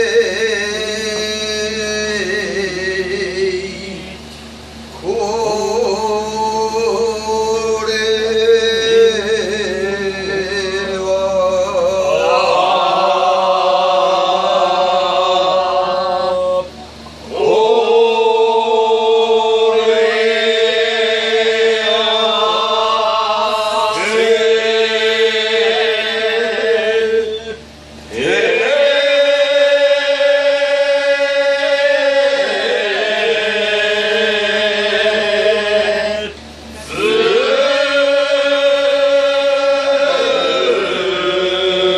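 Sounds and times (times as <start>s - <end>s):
man singing a work chant: 0.0s - 4.3s, 4.9s - 41.9s.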